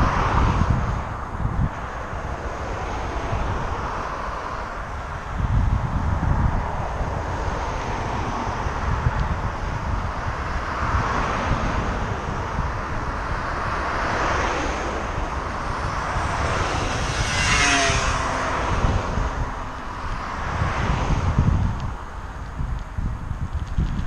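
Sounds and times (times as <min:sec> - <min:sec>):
cars passing: 0:00.0 - 0:24.0
wind rumble on microphone: 0:00.0 - 0:24.0.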